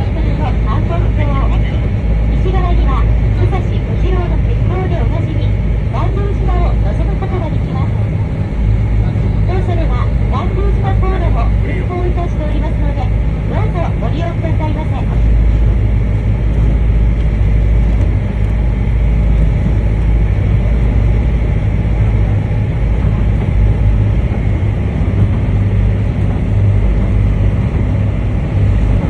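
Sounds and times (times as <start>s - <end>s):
ferry engine drone: 0.0s - 29.0s.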